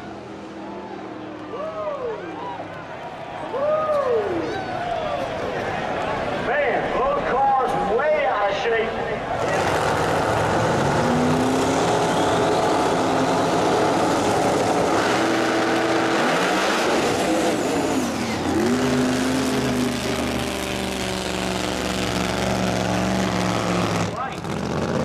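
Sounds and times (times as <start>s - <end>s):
race cars accelerating: 0.0s - 7.8s, 8.8s - 25.0s
race car engines revving: 0.0s - 25.0s.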